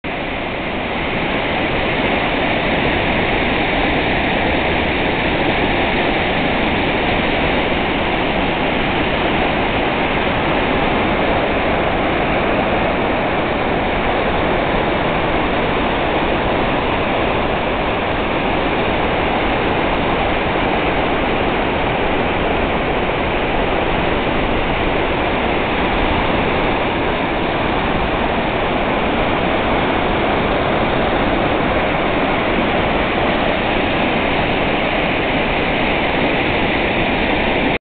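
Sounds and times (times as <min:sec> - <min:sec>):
waterfall rushing: 0:00.1 - 0:37.8.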